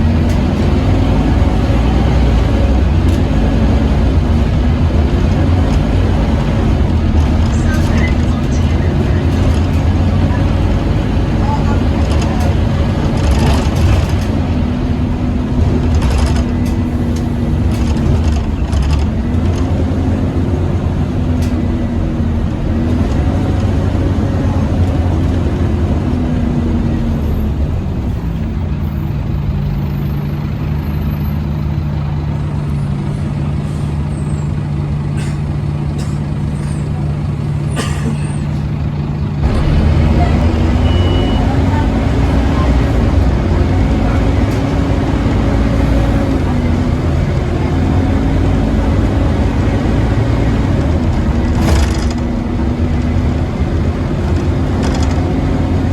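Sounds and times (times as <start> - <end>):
bus engine whine: 0.0 - 55.9.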